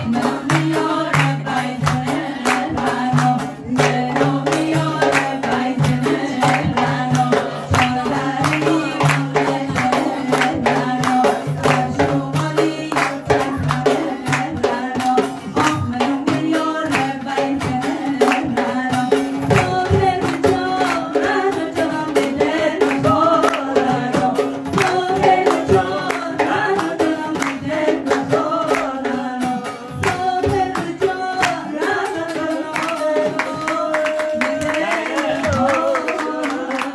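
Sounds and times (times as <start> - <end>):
hand drum beating: 0.0 - 36.9
voices singing folk song: 0.0 - 36.9.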